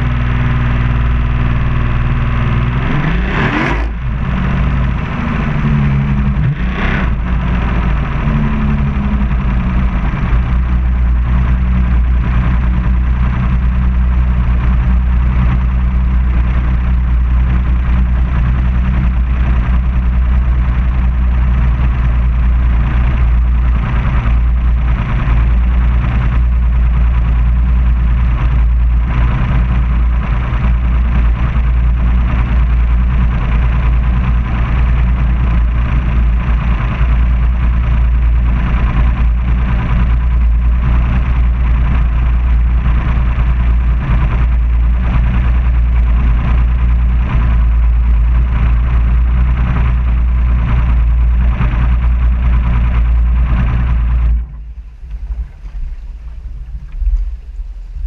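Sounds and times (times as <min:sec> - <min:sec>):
outboard engine droning: 0:00.0 - 0:58.0.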